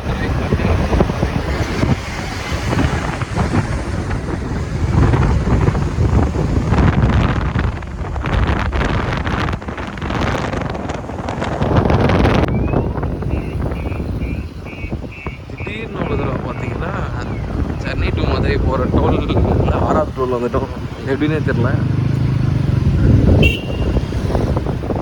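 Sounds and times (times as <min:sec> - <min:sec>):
motorcycle running: 0:00.0 - 0:25.0
wind buffeting microphone: 0:00.0 - 0:25.0.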